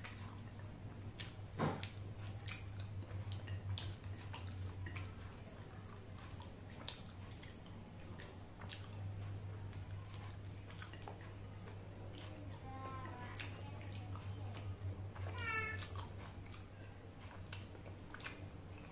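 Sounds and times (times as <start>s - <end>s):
steady low hum: 0.0s - 18.9s
wet chewing smacks: 0.0s - 18.9s.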